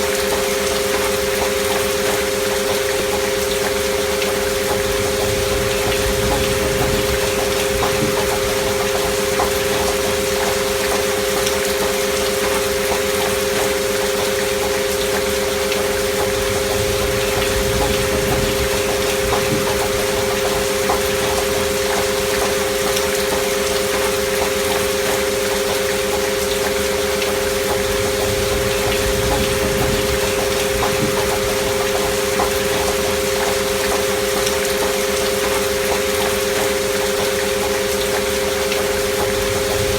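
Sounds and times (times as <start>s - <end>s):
rain drops ticking: 0.0s - 39.9s
steady rain: 0.0s - 39.9s.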